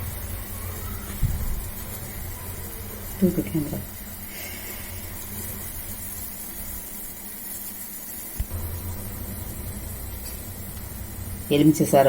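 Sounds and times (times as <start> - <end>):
gas stove flame hissing: 0.0 - 12.0
pot boiling hard: 0.0 - 12.0.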